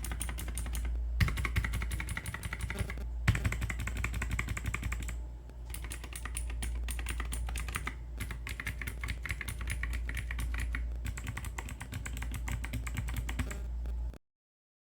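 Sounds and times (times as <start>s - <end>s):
typing on mechanical keyboard: 0.0s - 13.6s
steady low hum: 0.0s - 14.2s.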